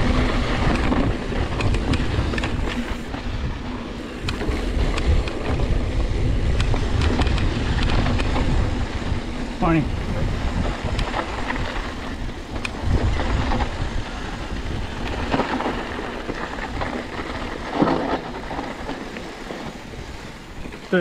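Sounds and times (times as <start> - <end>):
clicks and knocks from bike: 0.0 - 8.8, 10.4 - 21.0
bike rattling on dirt trail: 0.0 - 21.0
wind on microphone: 0.0 - 21.0.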